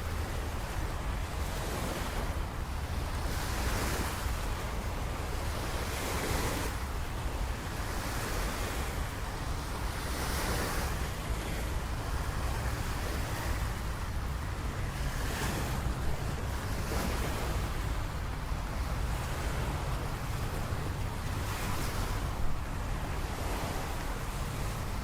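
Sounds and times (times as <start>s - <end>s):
rushing water: 0.0s - 25.0s
wind rumble on microphone: 0.0s - 25.0s.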